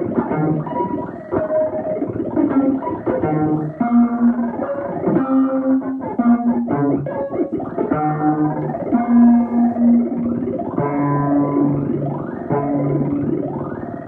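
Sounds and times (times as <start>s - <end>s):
synthesizer plucky notes: 0.0s - 14.0s.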